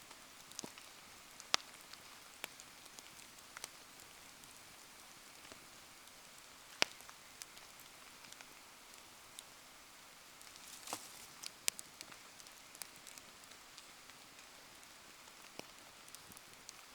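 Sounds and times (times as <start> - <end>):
bonfire crackling and popping: 0.0 - 16.9.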